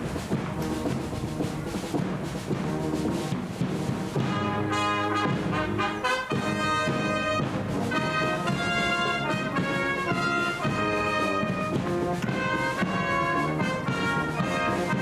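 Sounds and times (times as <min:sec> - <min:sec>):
brass band playing: 0:00.0 - 0:15.0
drums: 0:00.0 - 0:15.0.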